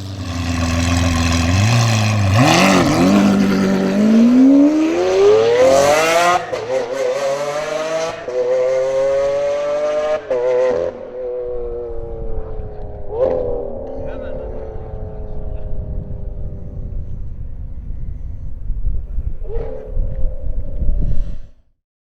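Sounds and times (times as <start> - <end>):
sports car engine revving: 0.0 - 18.2.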